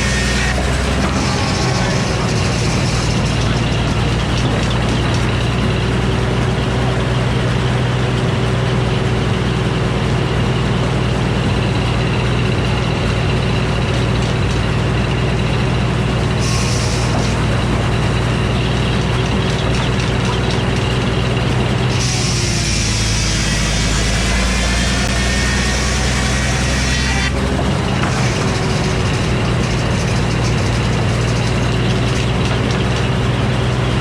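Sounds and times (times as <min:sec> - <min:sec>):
circular sawmill sawing wood: 0:00.0 - 0:08.5, 0:12.0 - 0:34.0
low engine drone: 0:00.0 - 0:34.0.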